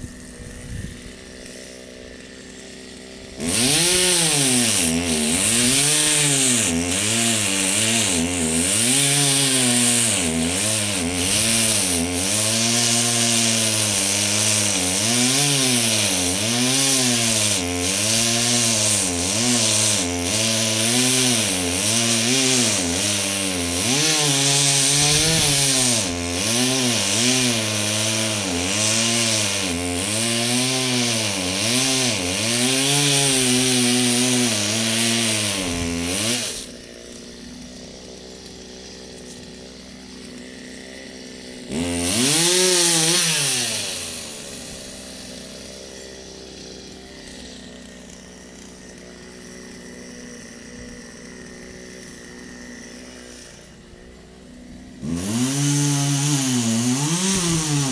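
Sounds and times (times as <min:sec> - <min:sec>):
chainsaw revving: 0:00.0 - 0:57.9.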